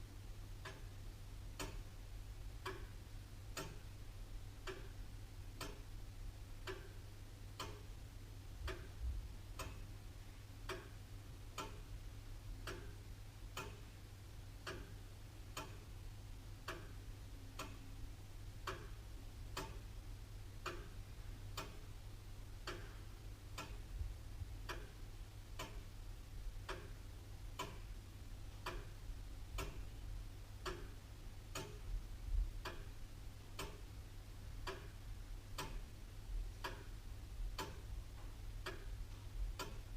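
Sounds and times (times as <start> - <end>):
clock ticking: 0.5 - 2.0, 2.6 - 6.0, 6.6 - 10.0, 10.6 - 18.0, 18.6 - 20.0, 20.6 - 26.0, 26.6 - 39.9.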